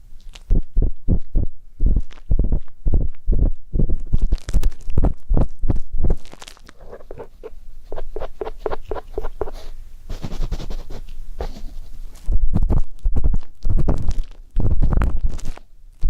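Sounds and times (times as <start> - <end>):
ear pick scratching microphone: 0.4 - 15.7.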